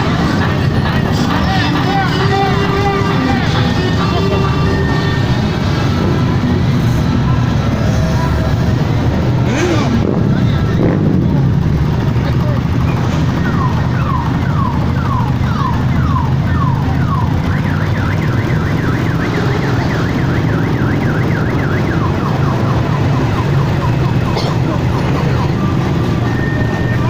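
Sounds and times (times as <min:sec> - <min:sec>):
electronic siren wailing: 0:00.0 - 0:10.0, 0:11.4 - 0:27.0
motorcycle engines rumbling: 0:00.0 - 0:27.0.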